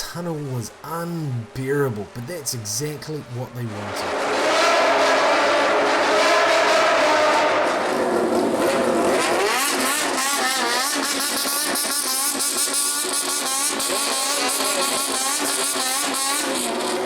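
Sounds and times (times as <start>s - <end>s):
motorcycle engines revving: 3.3s - 17.0s.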